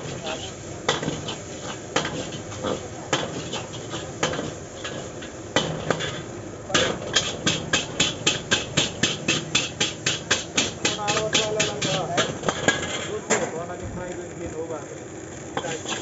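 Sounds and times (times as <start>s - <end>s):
metal spatula clanking in a wok: 0.0s - 13.2s, 15.6s - 16.0s.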